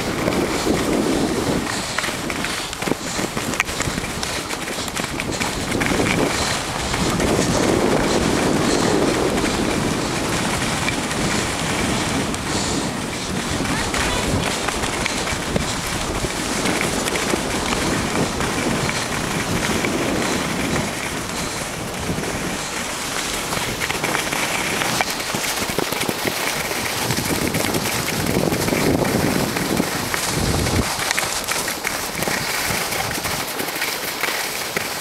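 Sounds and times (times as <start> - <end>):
skis scraping on snow: 0.0 - 35.0
wind on microphone: 0.0 - 35.0.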